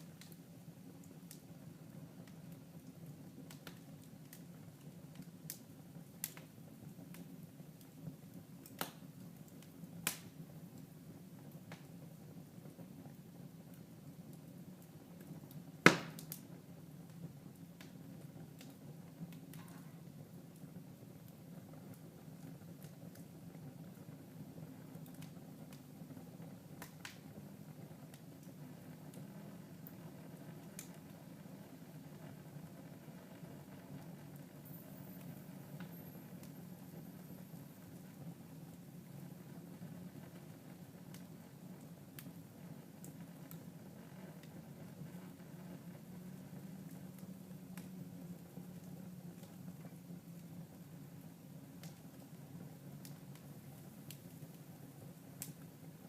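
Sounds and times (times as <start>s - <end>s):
sharp pops of fire: 0.0s - 31.3s, 39.0s - 56.0s
fireplace fire crackling: 0.0s - 56.0s.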